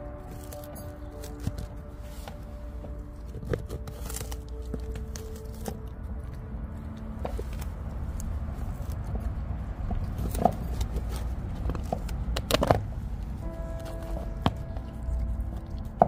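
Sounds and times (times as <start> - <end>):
low steady rumble: 0.0 - 16.0
dog chewing on bone: 0.2 - 16.0.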